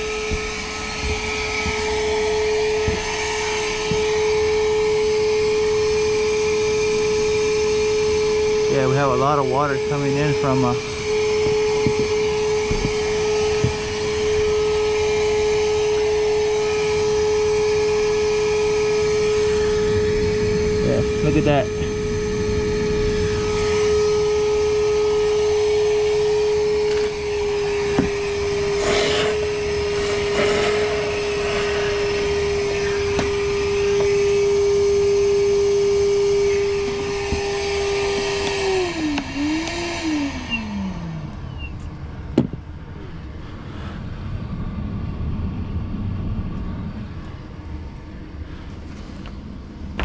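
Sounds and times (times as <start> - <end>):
motor winding down: 0.0 - 43.4
low rumble: 0.0 - 50.0
wet dry vacuum whining: 0.0 - 50.0.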